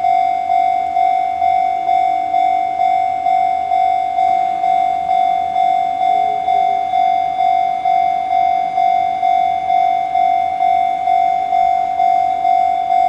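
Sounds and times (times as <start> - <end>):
level crossing bell ringing: 0.0 - 13.0.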